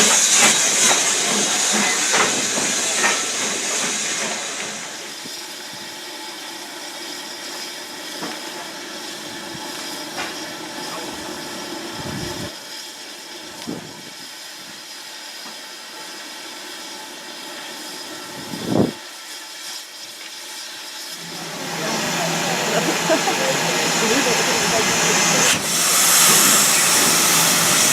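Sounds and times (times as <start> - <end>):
steam locomotive hissing: 0.0 - 27.9.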